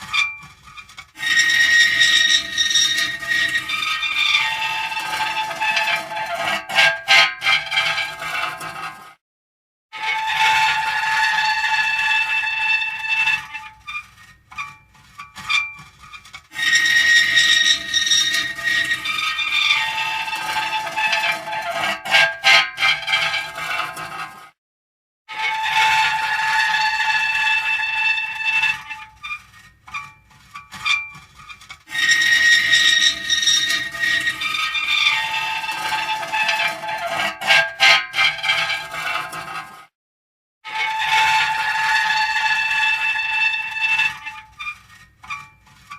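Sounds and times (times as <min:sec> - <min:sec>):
metal creaking and squealing: 0:00.0 - 0:09.2, 0:10.0 - 0:24.5, 0:25.3 - 0:39.9, 0:40.7 - 0:45.9.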